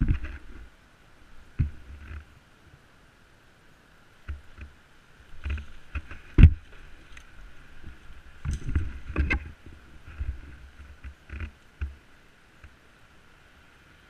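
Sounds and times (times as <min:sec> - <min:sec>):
rustling of dry brush and leaves: 0:00.0 - 0:14.0.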